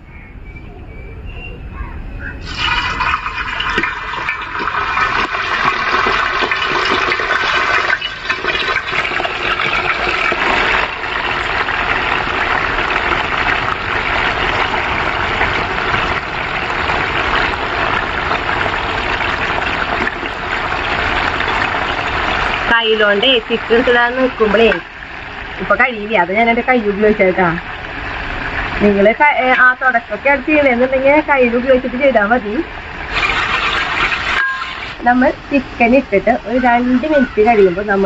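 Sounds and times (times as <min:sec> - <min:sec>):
chicken deep-frying sizzle: 0:02.4 - 0:38.0.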